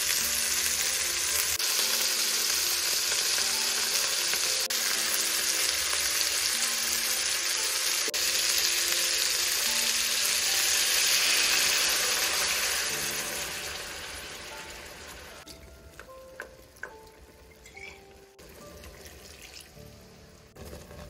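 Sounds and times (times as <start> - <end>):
chicken sizzling in a pot: 0.0 - 21.0.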